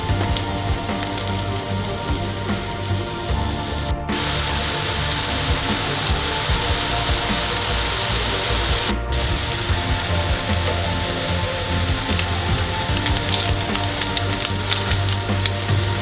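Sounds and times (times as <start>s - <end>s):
background music: 0.0s - 16.0s
food sizzling in oil: 0.2s - 16.0s.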